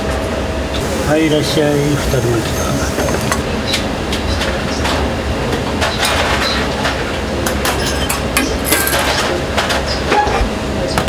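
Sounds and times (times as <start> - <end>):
low kitchen rumble: 0.0 - 11.0.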